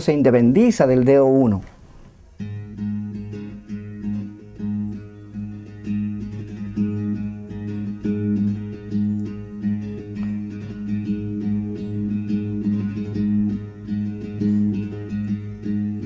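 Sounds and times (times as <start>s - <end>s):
acoustic guitar tapped percussively: 2.4s - 16.0s.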